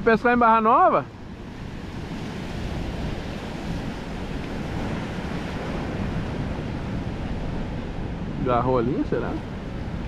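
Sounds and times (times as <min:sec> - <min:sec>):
ocean surf breaking: 0:00.0 - 0:10.0
wind rumbling on microphone: 0:00.0 - 0:10.0.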